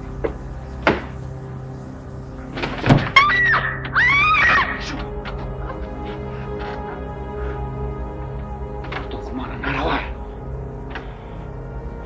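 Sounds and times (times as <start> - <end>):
high cries rising and falling: 0.0 - 12.0
low music drone: 0.0 - 12.0.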